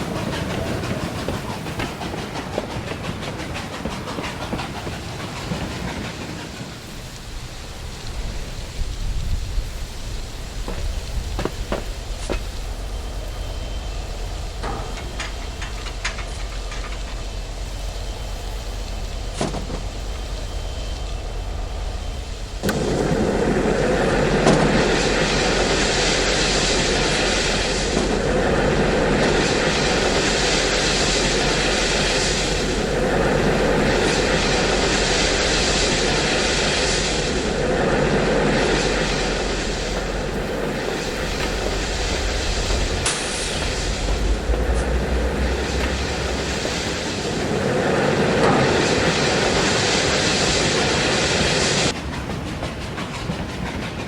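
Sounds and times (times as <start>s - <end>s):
loud rushing noise in surges: 0.0s - 54.0s.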